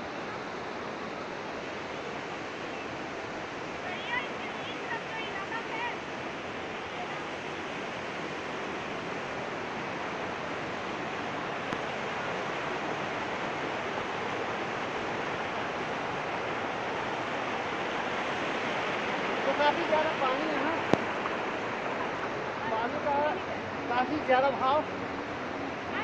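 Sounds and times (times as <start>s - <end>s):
fast-flowing stream water: 0.0s - 26.0s.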